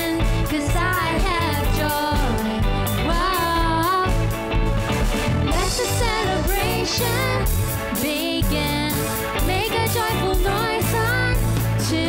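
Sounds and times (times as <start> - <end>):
woman singing: 0.0 - 4.3, 5.5 - 12.0
bass: 0.0 - 12.0
electric guitar: 0.0 - 12.0
keyboard: 0.0 - 12.0
steady drum beat: 0.0 - 12.0.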